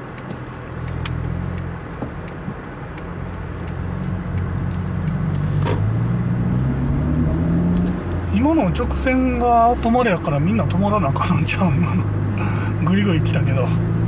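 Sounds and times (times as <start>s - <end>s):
car engine drone: 0.0s - 14.0s
turn signal ticking: 0.0s - 14.0s.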